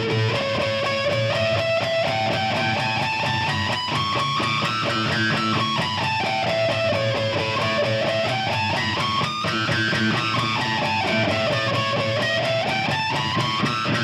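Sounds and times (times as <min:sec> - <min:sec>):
distorted electric guitar harmonics: 0:00.0 - 0:14.0.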